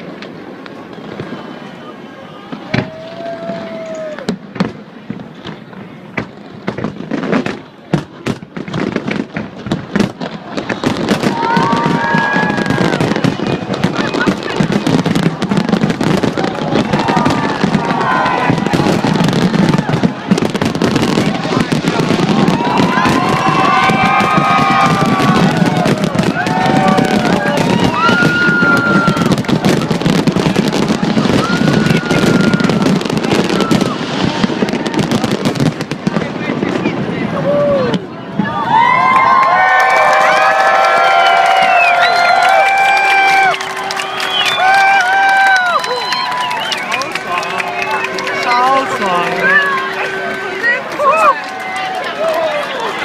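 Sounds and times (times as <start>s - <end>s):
fireworks bangs and crackles: 0.0s - 53.0s
fireworks whistling: 0.7s - 38.6s, 41.1s - 52.2s.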